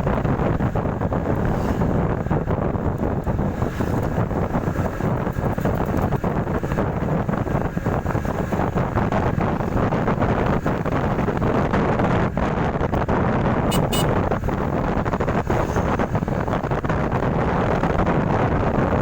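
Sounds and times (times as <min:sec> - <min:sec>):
motorcycle running: 0:00.0 - 0:19.0
wind buffeting microphone: 0:00.0 - 0:19.0.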